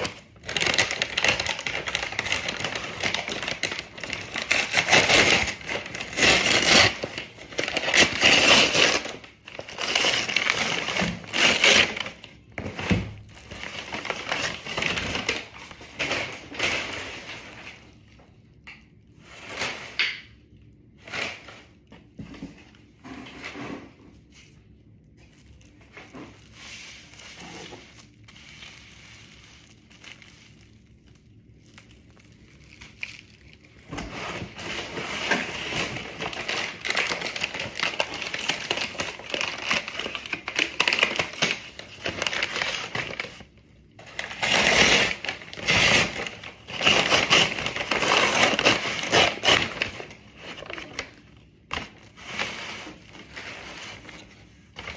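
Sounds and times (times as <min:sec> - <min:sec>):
packing material crinkling: 0:00.0 - 0:18.1, 0:25.2 - 0:54.9.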